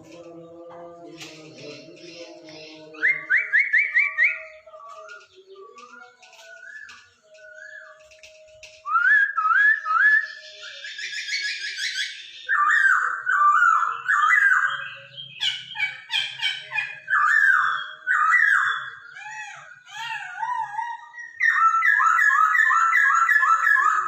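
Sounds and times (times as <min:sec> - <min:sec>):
bird singing whistled phrases: 0:02.0 - 0:24.0.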